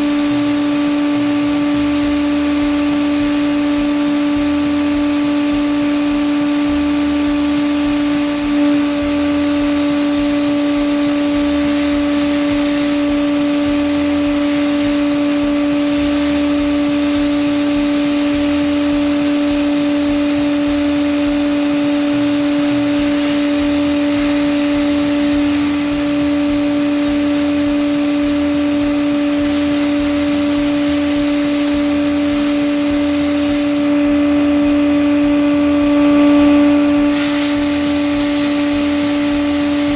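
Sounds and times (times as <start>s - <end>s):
blast air hissing: 0.0s - 34.4s, 37.0s - 39.9s
motor hum: 0.0s - 39.9s.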